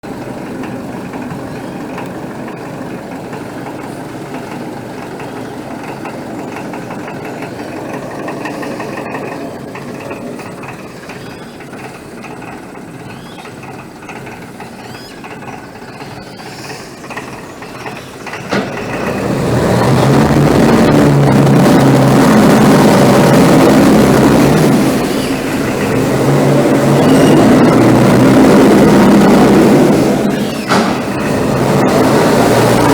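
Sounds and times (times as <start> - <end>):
boat engine chugging: 0.0 - 32.9.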